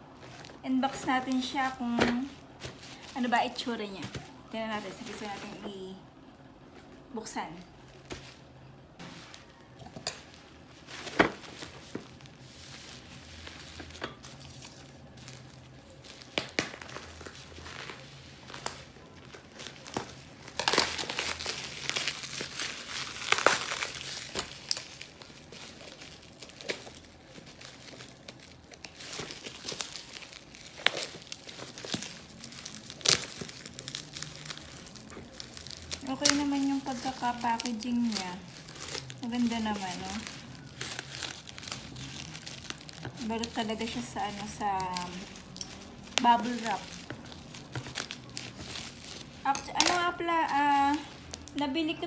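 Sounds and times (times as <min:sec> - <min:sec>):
plastic packaging crinkling: 0:00.0 - 0:52.0.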